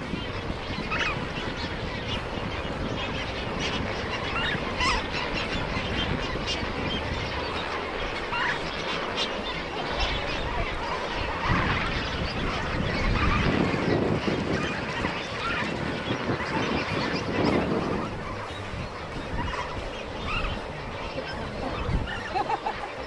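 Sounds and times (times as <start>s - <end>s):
birds honking: 0.0s - 23.0s
steady background noise: 0.0s - 23.0s.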